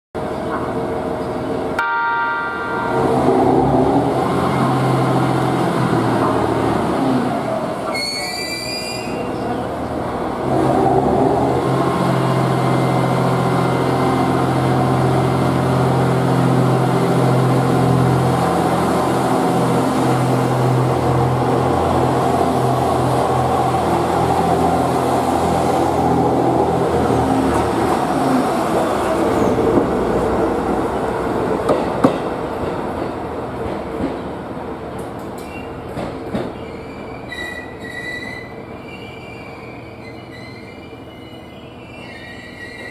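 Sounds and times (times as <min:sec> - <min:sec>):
railcar engine humming: 0:00.2 - 0:42.9.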